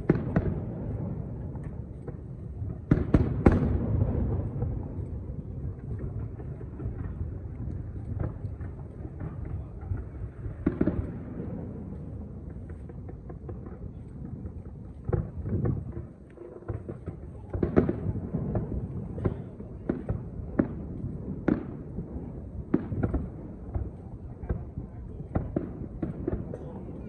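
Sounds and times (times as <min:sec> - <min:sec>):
distant fireworks bursting: 0:00.0 - 0:27.0
firework crackling: 0:00.0 - 0:27.0.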